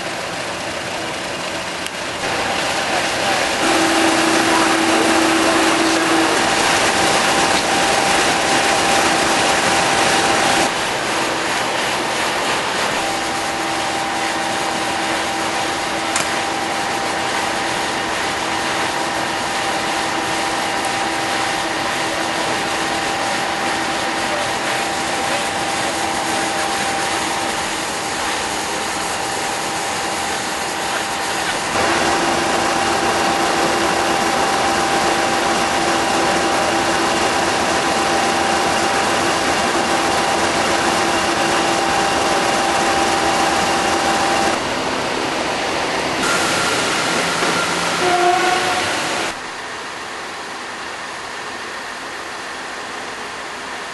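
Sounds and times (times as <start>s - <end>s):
diesel locomotive engine idling: 0.0s - 49.6s
steady hum: 0.0s - 53.9s.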